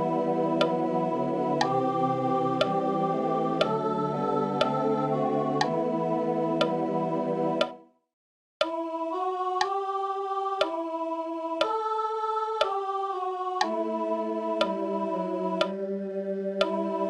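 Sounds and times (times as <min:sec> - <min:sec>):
sustained electronic organ chords: 0:00.0 - 0:07.8, 0:08.7 - 0:17.0.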